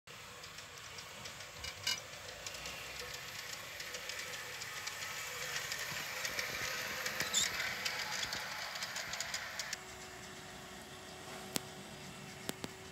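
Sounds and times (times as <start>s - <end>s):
model train wheels clicking on rails: 0.1s - 12.9s.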